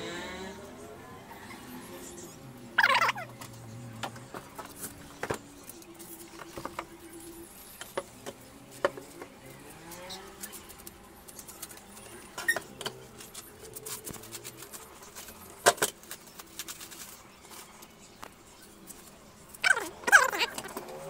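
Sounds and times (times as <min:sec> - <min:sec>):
plastic rustling: 0:04.1 - 0:21.0.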